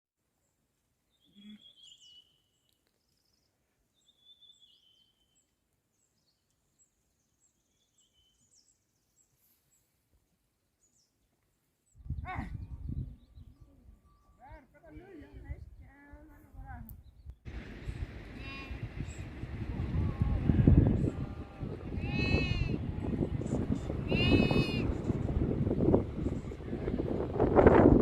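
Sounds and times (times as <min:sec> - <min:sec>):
faint songbirds calling: 0:00.4 - 0:14.7, 0:16.7 - 0:25.5.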